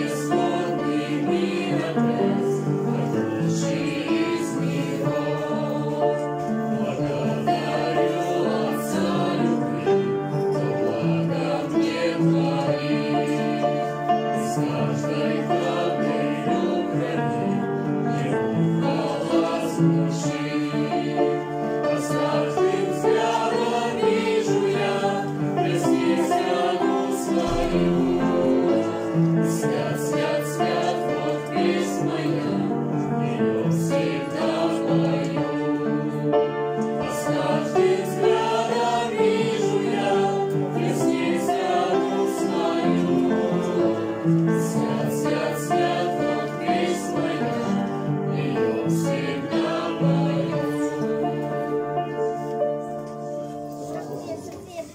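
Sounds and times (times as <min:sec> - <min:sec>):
mixed choir singing a hymn: 0:00.0 - 0:54.4
piano accompaniment: 0:00.0 - 0:54.9.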